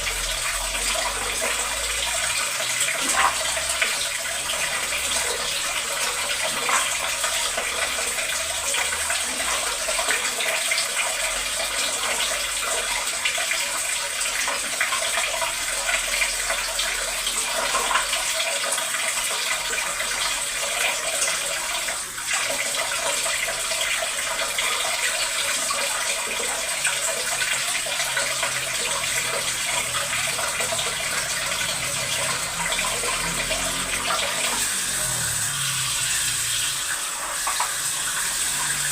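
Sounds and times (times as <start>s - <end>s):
water running from tap: 0.0s - 38.9s.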